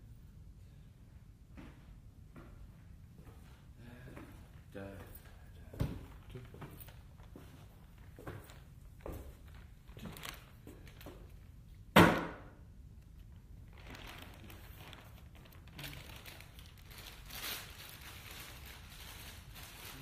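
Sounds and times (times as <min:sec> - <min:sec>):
soft rustling and handling: 0:02.4 - 0:11.8, 0:13.0 - 0:20.0.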